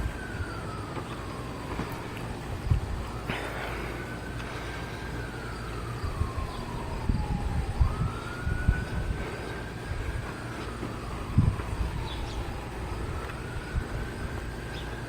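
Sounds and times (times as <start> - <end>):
warning siren sliding in pitch: 0.0 - 15.0.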